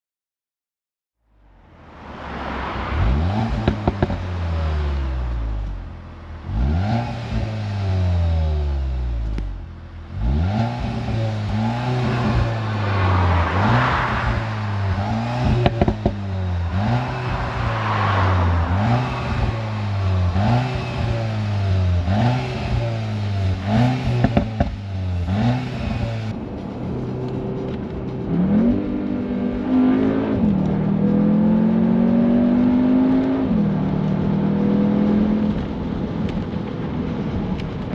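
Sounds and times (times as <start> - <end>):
car engine revving: 1.4 - 37.9
exhaust cracks: 1.4 - 37.9.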